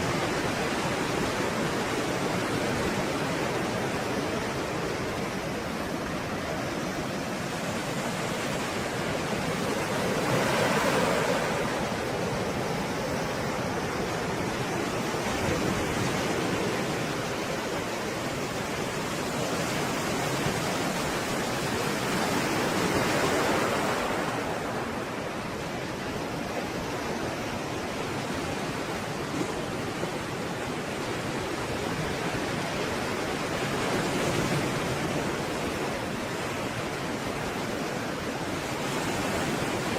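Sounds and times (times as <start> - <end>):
stormy sea waves breaking: 0.0 - 39.9.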